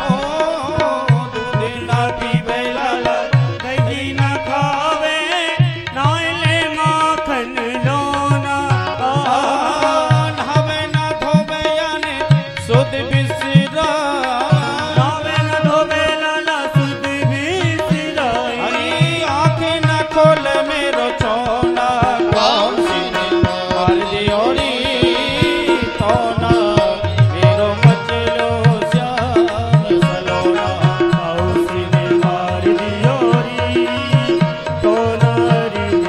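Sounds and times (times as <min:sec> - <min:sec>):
tabla rhythm: 0:00.0 - 0:36.0.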